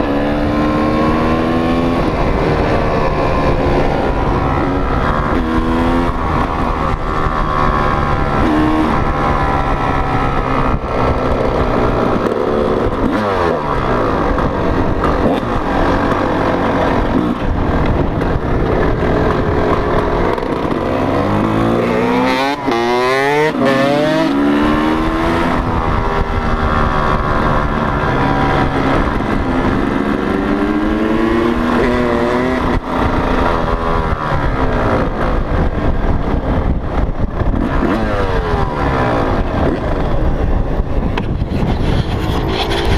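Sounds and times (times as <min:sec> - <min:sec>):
motocross bike engines revving: 0:00.0 - 0:17.7, 0:18.4 - 0:35.1, 0:40.8 - 0:42.9.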